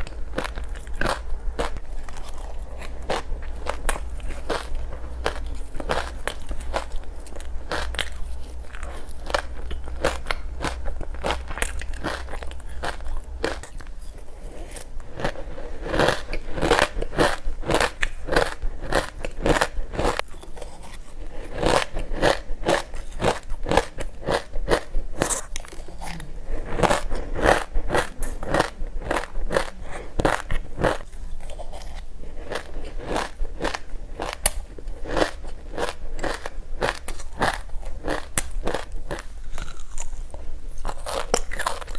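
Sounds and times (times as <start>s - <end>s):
chewing crunchy frozen ice: 0.0s - 41.9s.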